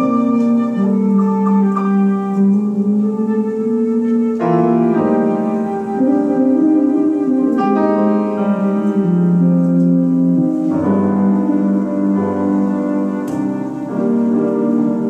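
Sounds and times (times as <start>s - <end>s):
flute-like wind instrument: 0.0s - 15.0s
piano chords: 0.0s - 15.0s.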